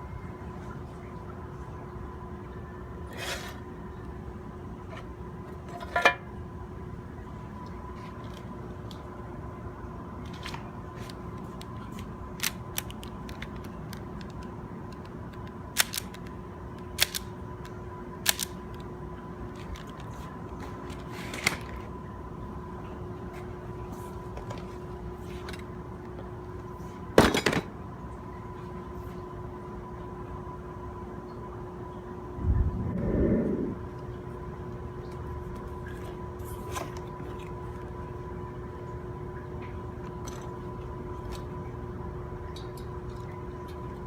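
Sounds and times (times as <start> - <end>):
steady hum: 0.0 - 44.0.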